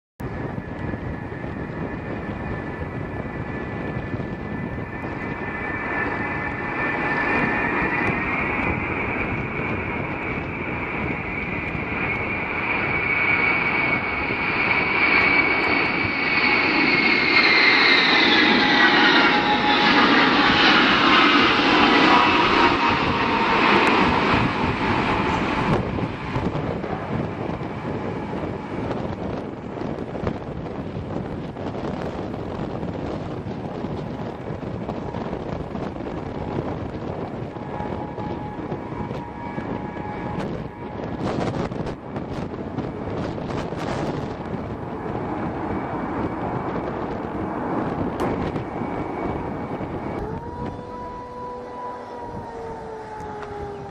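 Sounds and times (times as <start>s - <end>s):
aircraft passing by: 0.2s - 53.9s.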